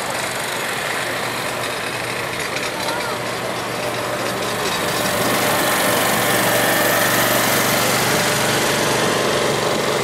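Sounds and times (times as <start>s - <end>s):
engine hissing and humming: 0.0s - 10.0s.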